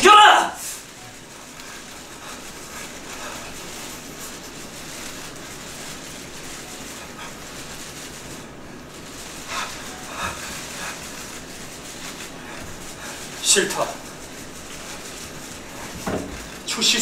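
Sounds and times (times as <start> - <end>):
hall hiss: 0.0 - 17.0.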